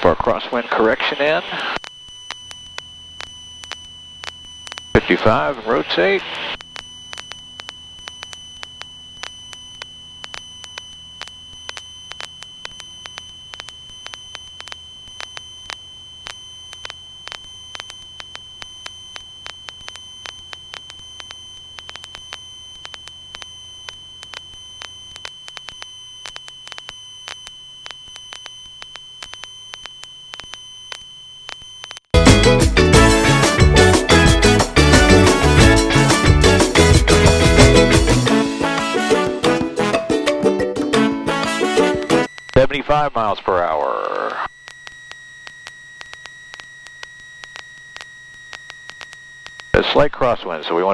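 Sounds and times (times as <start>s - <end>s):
high-pitched electronic whine: 0.0s - 50.9s.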